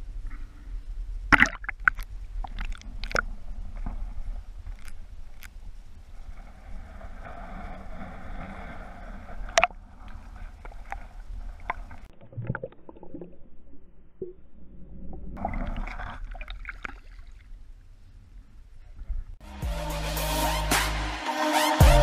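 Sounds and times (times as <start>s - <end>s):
muffled water sloshing and bubbling: 0.1s - 19.4s.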